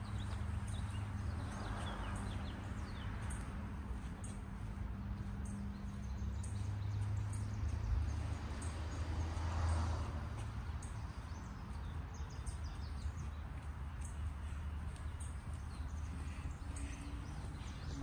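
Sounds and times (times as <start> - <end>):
small birds chirping: 0.0 - 9.4, 10.3 - 18.0.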